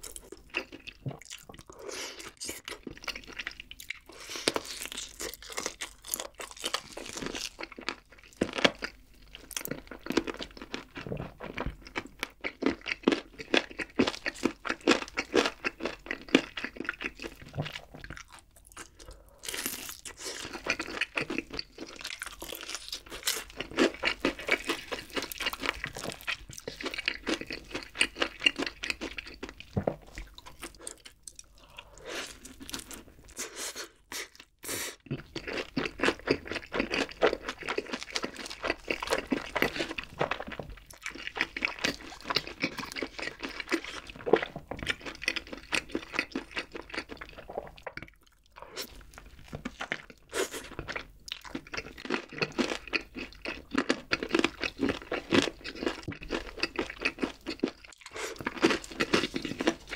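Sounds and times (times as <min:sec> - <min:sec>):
crunching fried chicken: 0:00.0 - 0:33.4, 0:35.1 - 0:59.9.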